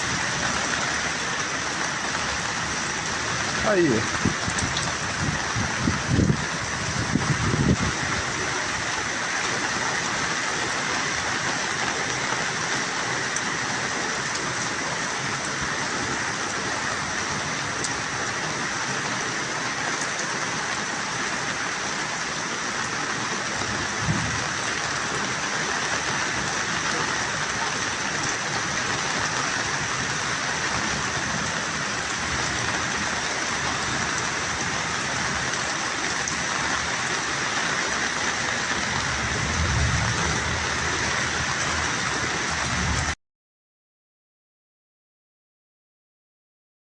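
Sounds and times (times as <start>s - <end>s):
steady rain falling: 0.0s - 43.2s.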